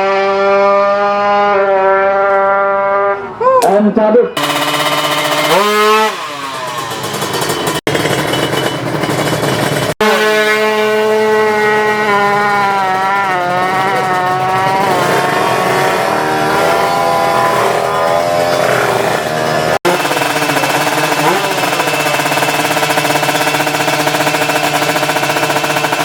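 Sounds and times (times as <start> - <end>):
two-stroke engine revving hard: 0.0 - 3.3, 4.4 - 26.0.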